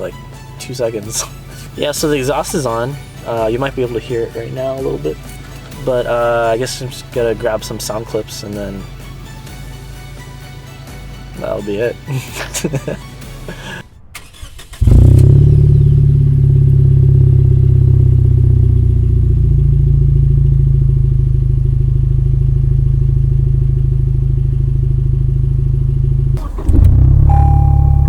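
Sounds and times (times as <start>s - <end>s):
car engine idling with deep exhaust: 0.0s - 12.2s, 14.8s - 28.0s
car engine starting: 0.0s - 28.0s.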